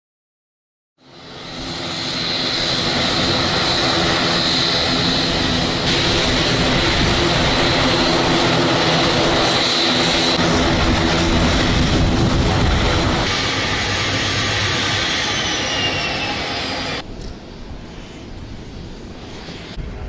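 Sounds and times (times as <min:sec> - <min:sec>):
high engine whine: 0:01.0 - 0:20.0
propeller drone: 0:01.0 - 0:20.0.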